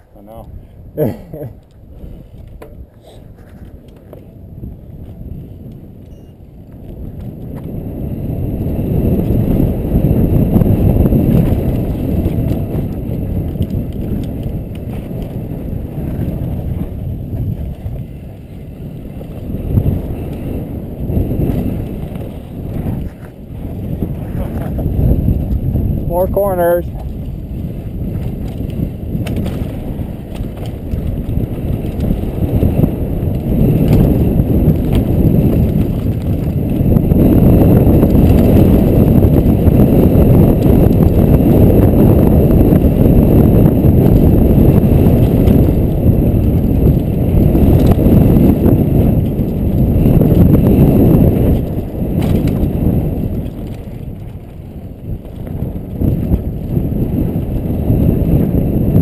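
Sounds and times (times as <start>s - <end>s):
bike rattles and clicks: 0.0s - 59.0s
bike tyre rumble: 0.0s - 59.0s
wind rushing on microphone: 0.0s - 59.0s.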